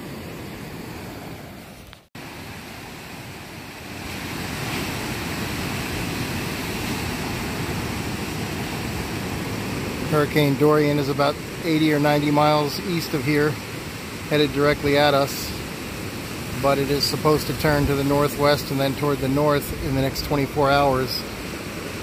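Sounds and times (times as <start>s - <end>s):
heavy surf breaking: 0.0s - 22.0s.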